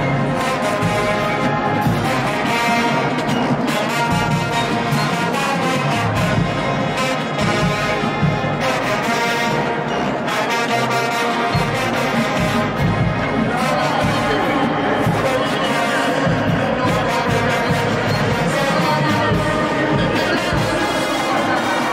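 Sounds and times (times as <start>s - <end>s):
marching band brass playing: 0.0s - 21.9s
trombones: 0.0s - 21.9s.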